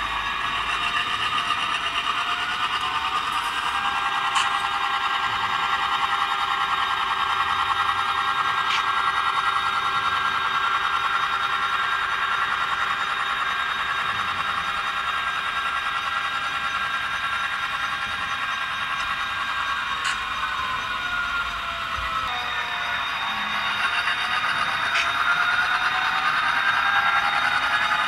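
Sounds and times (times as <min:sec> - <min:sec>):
model diesel engine drone: 0:00.0 - 0:28.0.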